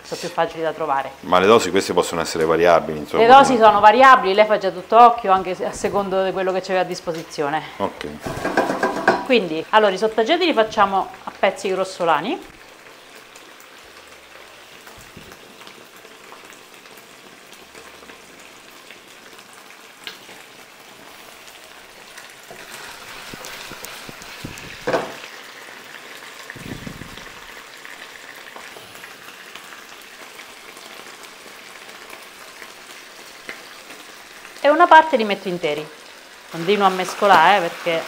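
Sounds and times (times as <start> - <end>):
chicken sizzling in a pan: 0.0 - 38.0.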